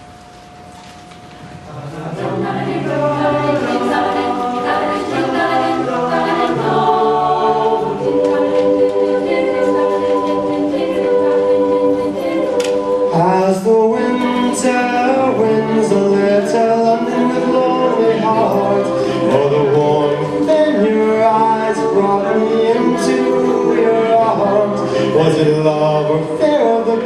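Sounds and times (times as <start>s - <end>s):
a cappella group singing: 1.9s - 27.0s.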